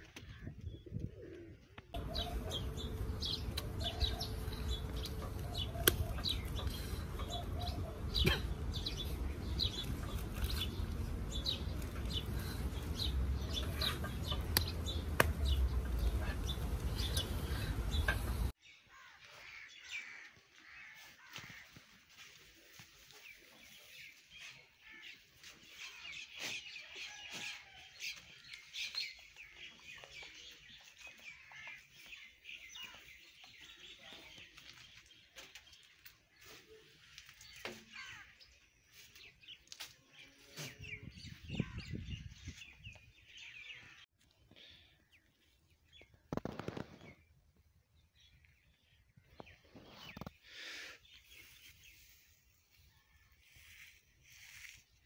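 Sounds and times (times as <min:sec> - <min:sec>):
birds chirping: 0:00.0 - 0:21.8, 0:22.4 - 0:53.8.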